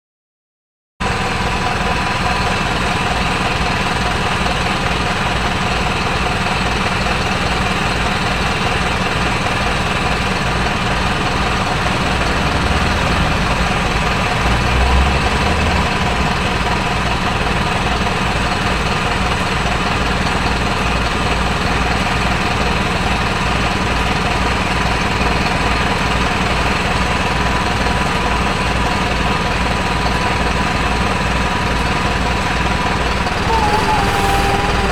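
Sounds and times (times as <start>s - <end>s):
diesel bus engine idling: 1.0s - 34.9s.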